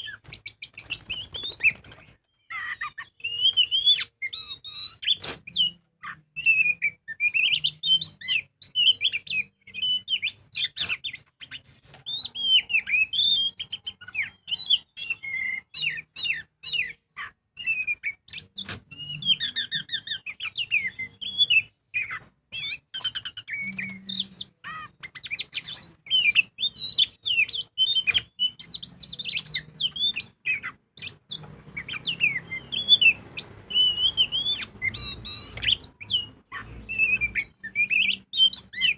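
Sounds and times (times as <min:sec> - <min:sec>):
bird singing varied whistles: 0:00.0 - 0:38.9.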